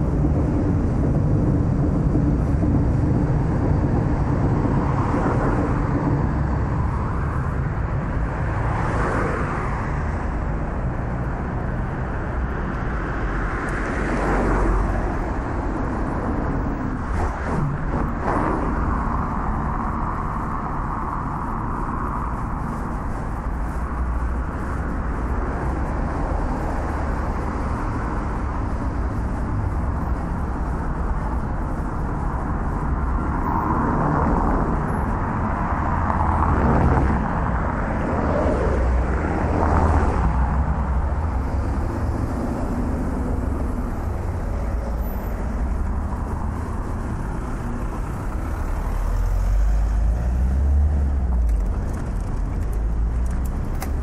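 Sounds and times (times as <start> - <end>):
cars driving past: 0.0 - 54.0
low traffic rumble: 0.0 - 54.0.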